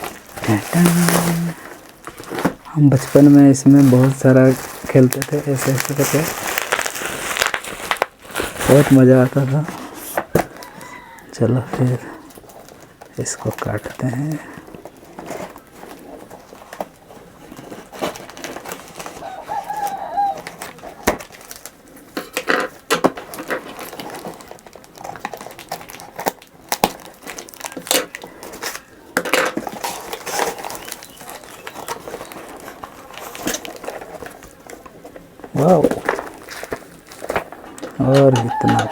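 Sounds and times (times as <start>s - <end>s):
plastic and bubble wrap crinkling: 0.0s - 38.9s.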